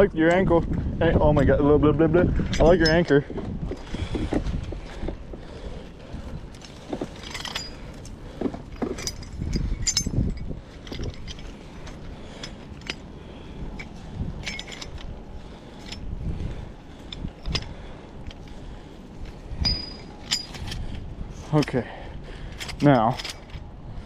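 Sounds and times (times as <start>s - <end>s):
low rumble: 0.0s - 24.0s
gear clinking and rustling: 2.4s - 23.7s.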